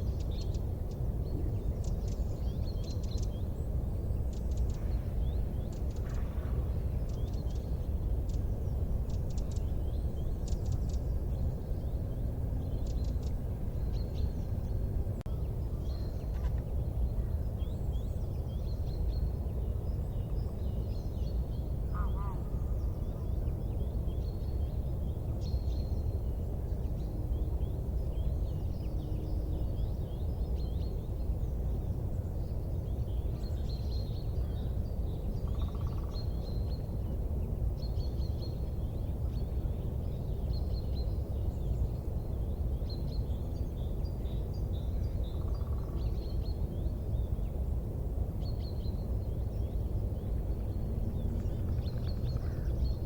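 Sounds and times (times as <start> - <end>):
low rumbling noise: 0.0 - 53.0
small birds chirping: 0.0 - 53.0.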